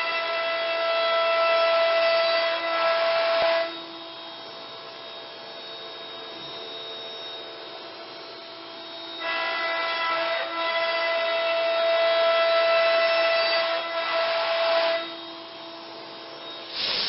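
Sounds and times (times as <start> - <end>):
cnc router spindle cutting wood: 0.0 - 17.0.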